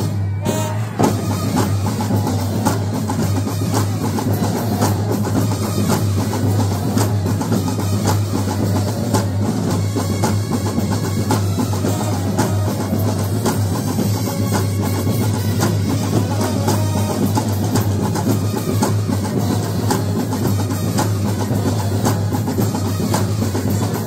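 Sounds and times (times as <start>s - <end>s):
marching brass band: 0.0s - 24.0s
snare and bass drums: 0.0s - 24.0s.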